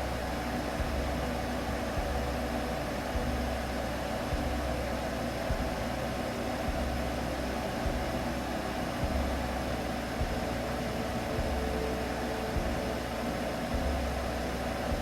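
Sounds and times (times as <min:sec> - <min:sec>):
low drone: 0:00.0 - 0:15.0
white noise hiss: 0:00.0 - 0:15.0.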